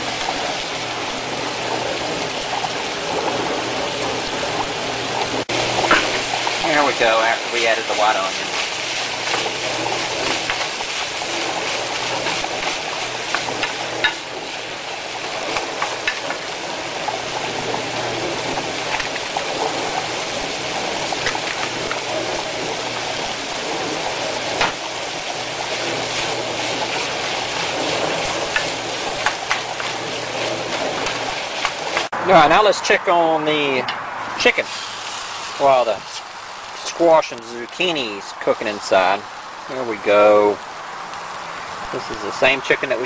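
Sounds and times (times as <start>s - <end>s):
food sizzling in a skillet: 4.6s - 32.2s, 34.3s - 43.0s.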